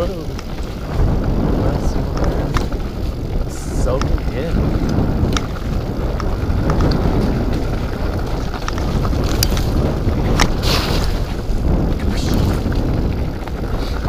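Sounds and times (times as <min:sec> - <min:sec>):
bike clicks and rattles: 0:00.0 - 0:14.0
tyres rumbling on dirt: 0:00.0 - 0:14.0
wind rush on microphone: 0:00.0 - 0:14.0.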